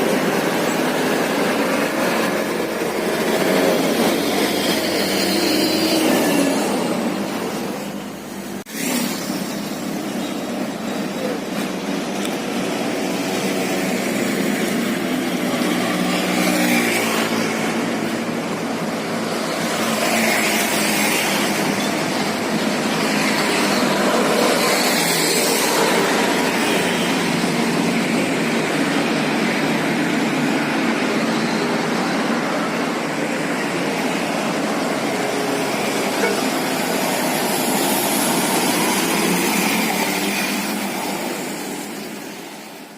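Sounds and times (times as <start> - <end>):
bus engine running: 0.0 - 5.4, 6.0 - 42.9
road and traffic noise: 0.0 - 42.9.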